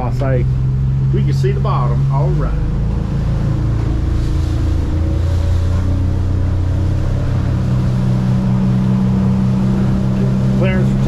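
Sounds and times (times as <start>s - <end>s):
outboard motor drone: 0.0s - 11.0s
rush of boat wake: 0.0s - 11.0s.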